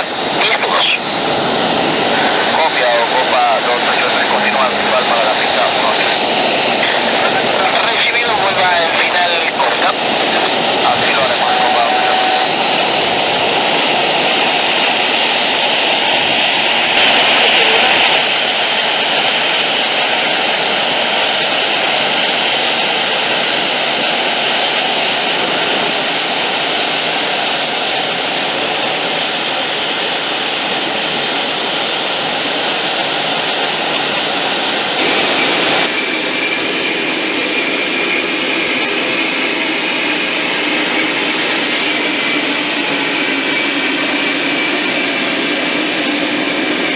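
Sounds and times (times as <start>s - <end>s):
jet engines with fan whine: 0.0s - 46.9s.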